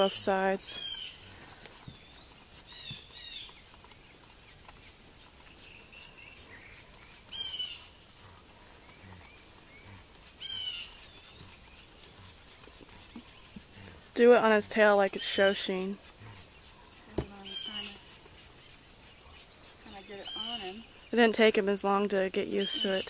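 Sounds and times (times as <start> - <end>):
faint outdoor background noise: 0.0 - 23.0
small birds chirping: 0.0 - 23.0.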